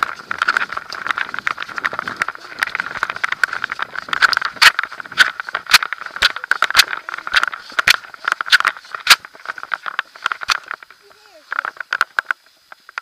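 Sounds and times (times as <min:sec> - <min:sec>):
camera knocking against girth: 0:00.0 - 0:10.9, 0:11.5 - 0:13.0
scraping and rattling: 0:00.0 - 0:13.0.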